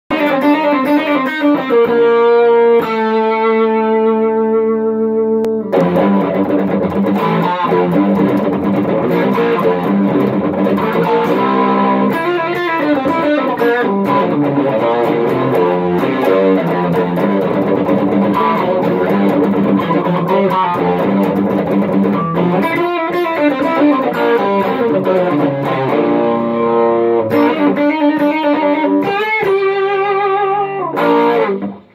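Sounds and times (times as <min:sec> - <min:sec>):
electric guitar playing: 0:00.1 - 0:31.9.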